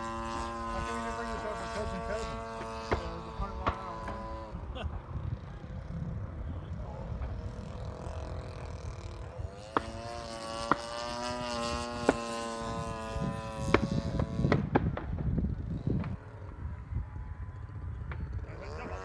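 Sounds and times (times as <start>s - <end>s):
model airplane motor drone: 0.0s - 19.0s
wind on microphone: 0.0s - 19.0s.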